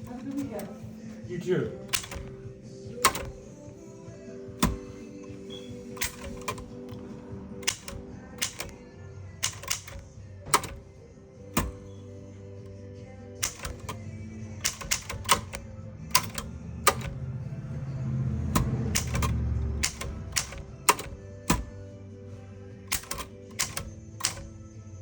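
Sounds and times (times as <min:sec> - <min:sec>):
manual typewriter keys striking: 0:00.0 - 0:00.8, 0:01.8 - 0:12.2, 0:13.3 - 0:21.8, 0:22.9 - 0:24.6.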